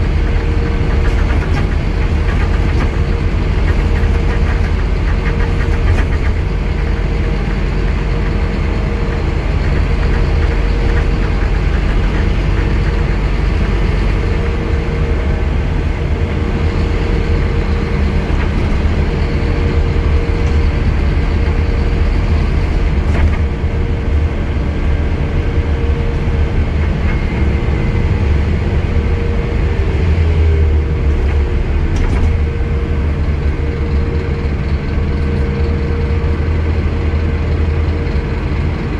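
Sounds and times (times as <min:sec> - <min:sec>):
bus diesel engine drone: 0:00.0 - 0:38.9
constant whining tone: 0:00.0 - 0:38.9.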